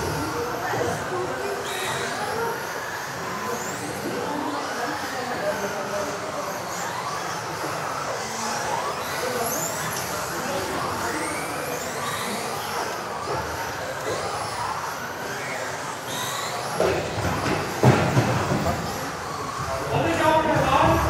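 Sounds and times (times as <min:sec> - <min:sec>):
rc car motors whining: 0:00.0 - 0:21.0.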